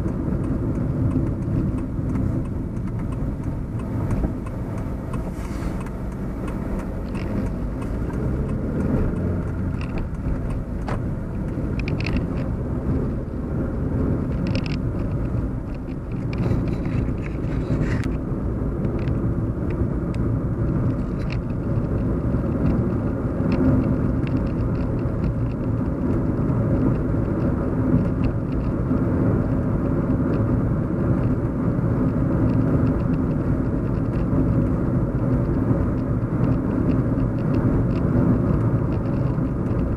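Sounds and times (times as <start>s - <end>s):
car cabin road hum: 0.0s - 39.9s.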